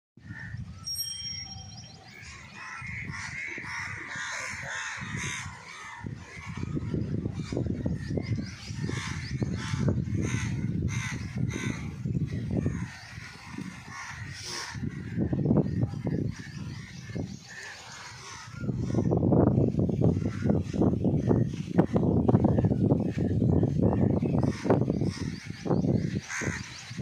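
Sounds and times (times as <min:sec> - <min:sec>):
birds calling: 0:00.2 - 0:27.0
wind rumble on microphone: 0:00.2 - 0:27.0.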